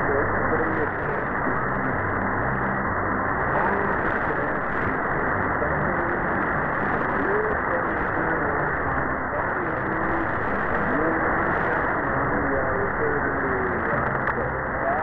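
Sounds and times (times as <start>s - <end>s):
faint voice on radio: 0.0s - 2.0s, 3.4s - 15.0s
radio static hiss: 0.0s - 15.0s.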